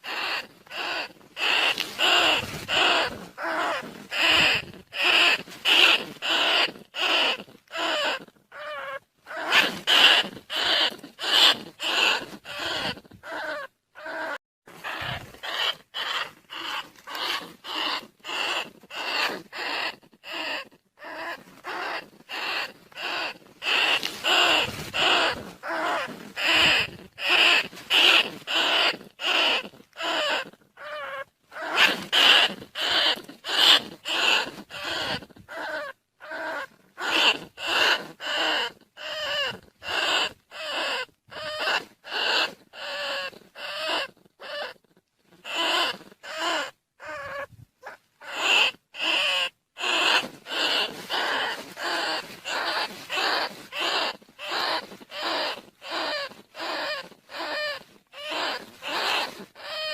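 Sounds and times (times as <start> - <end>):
rat squeals: 0.0 - 59.9.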